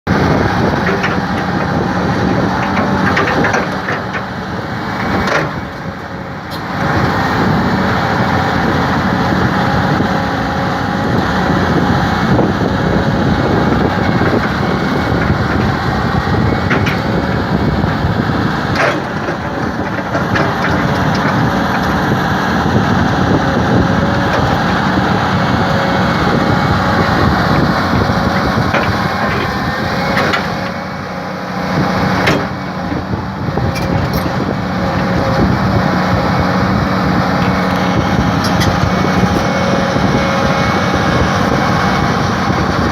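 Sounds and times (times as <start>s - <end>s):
excavator diesel engine running: 0.1s - 42.9s.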